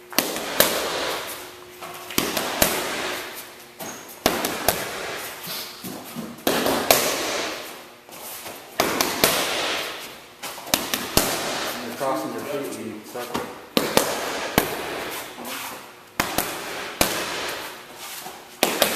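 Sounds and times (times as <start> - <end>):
boxing gloves hitting mitts: 0.0 - 7.8, 8.4 - 12.4, 13.2 - 18.9.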